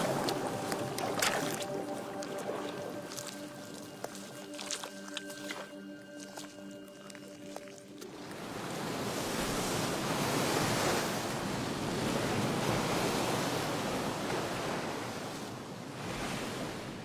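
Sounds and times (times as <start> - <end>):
sea waves churning and breaking: 0.0 - 17.0.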